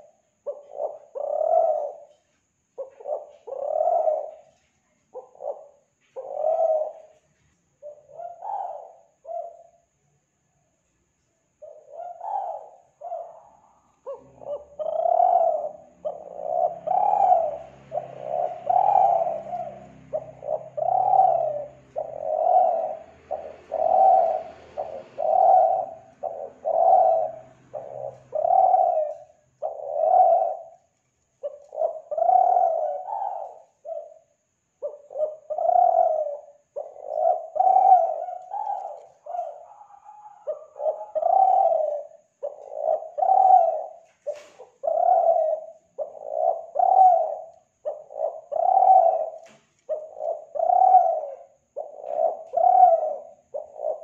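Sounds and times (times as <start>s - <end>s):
dove cooing: 0.0s - 10.0s, 11.6s - 54.0s.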